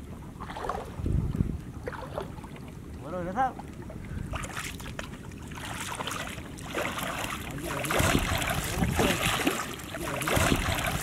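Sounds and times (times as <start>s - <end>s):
water splashing from wading: 0.0s - 11.0s.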